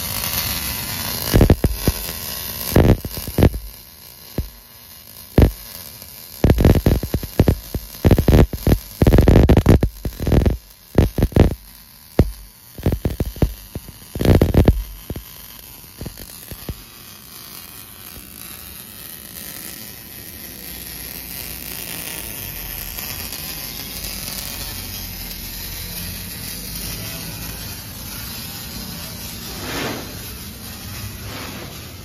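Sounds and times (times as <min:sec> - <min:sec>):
welding arc crackling and buzzing: 0:00.0 - 0:32.0.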